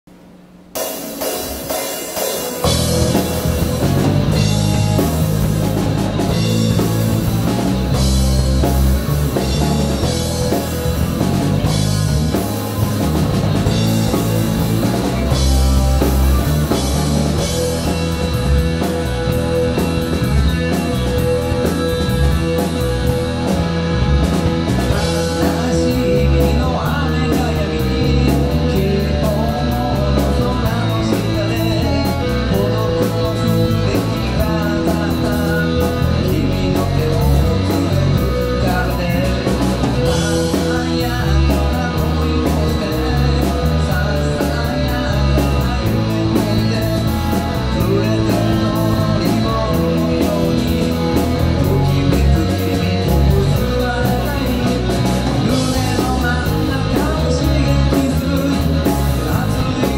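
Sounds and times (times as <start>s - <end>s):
live rock band playing: 0.7s - 59.9s.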